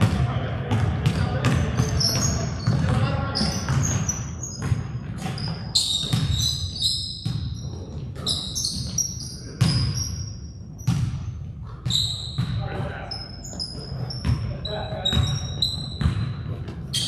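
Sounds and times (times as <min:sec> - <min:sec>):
basketball bouncing on gym floor: 0:00.0 - 0:17.0
sneakers squeaking on court: 0:00.0 - 0:17.0.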